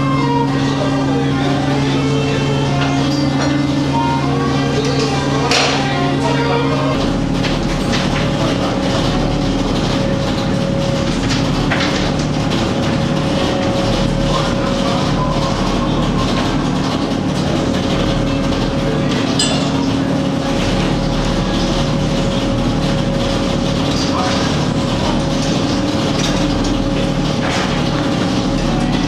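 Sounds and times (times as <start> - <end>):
boat engine drone: 0.0 - 29.0.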